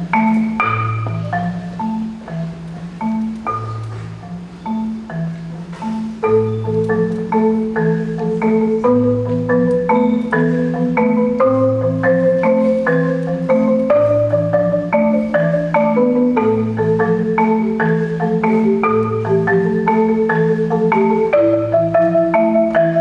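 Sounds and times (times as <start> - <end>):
solo marimba: 0.0 - 23.0.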